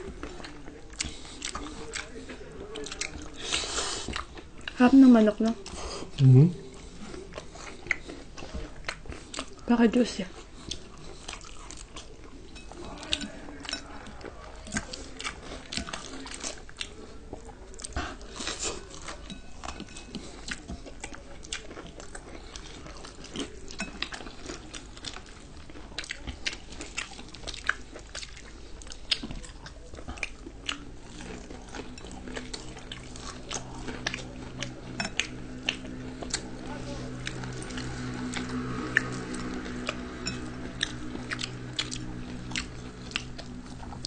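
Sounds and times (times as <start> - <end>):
person chewing and lip smacking: 0.0 - 4.8, 5.6 - 9.6, 10.4 - 44.0.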